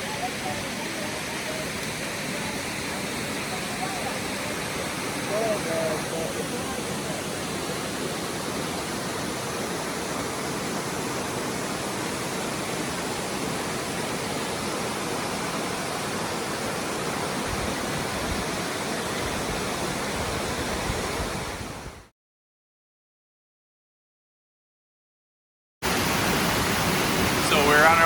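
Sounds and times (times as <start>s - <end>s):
waterfall rushing: 0.0s - 21.9s, 25.8s - 28.0s.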